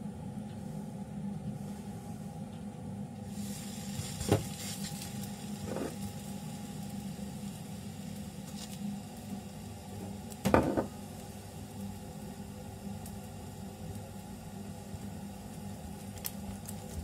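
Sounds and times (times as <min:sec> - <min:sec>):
dough sizzling in a pan: 0:03.2 - 0:17.0.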